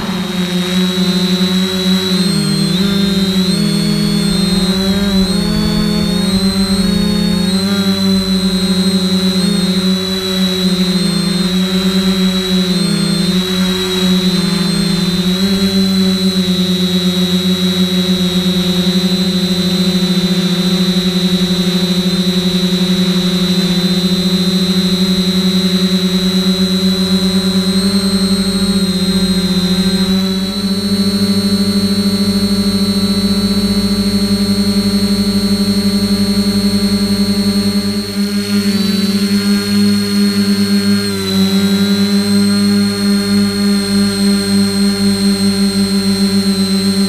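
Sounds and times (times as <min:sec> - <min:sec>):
drone motors and propellers humming: 0:00.0 - 0:47.0.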